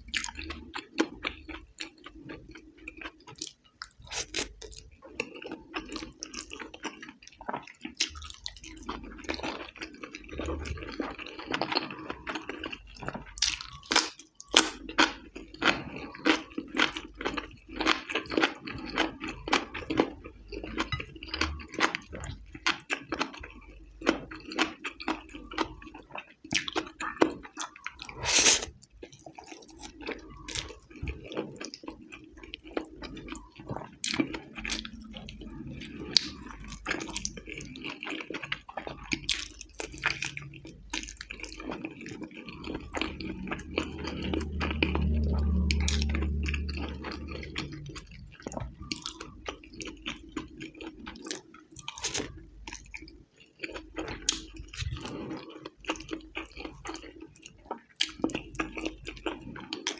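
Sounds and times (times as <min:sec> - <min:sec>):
crunching cucumber: 0:00.0 - 0:59.9
wet sticky chewing: 0:00.0 - 0:59.9.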